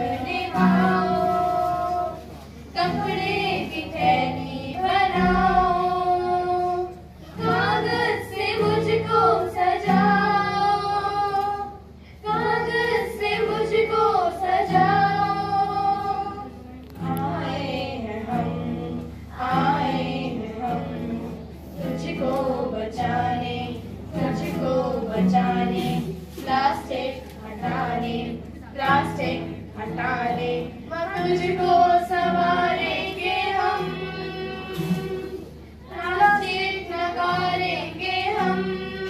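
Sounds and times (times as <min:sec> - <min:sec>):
acoustic guitar: 0:00.0 - 0:39.0
children singing: 0:00.0 - 0:39.0.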